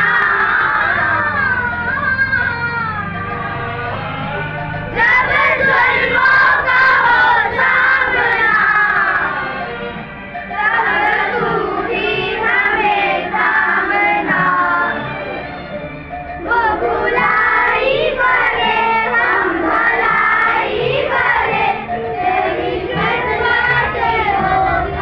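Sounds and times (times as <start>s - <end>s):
children singing in unison: 0.0s - 15.6s, 16.2s - 25.0s.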